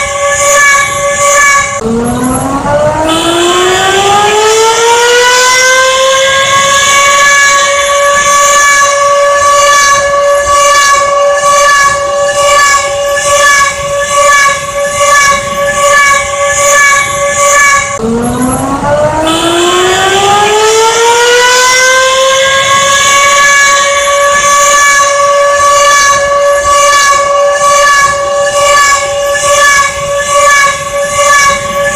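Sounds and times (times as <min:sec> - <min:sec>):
warning siren: 0:00.0 - 0:31.9.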